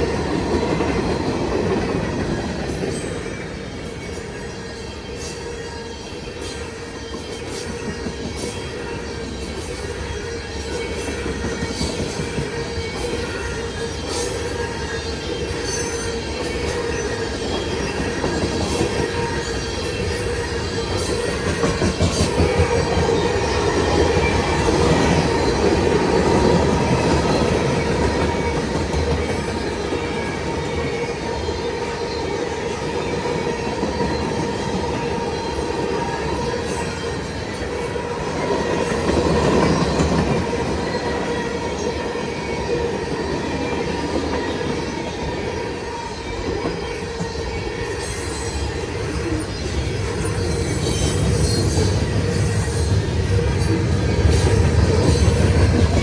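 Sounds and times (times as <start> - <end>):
high wheel squeal on rails: 0.0 - 56.0
train wheels clacking: 0.0 - 56.0.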